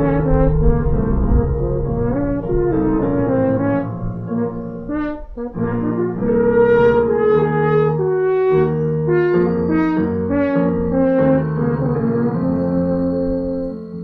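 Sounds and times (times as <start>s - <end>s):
french horn slow melody: 0.0s - 14.0s
low held notes: 0.0s - 14.0s.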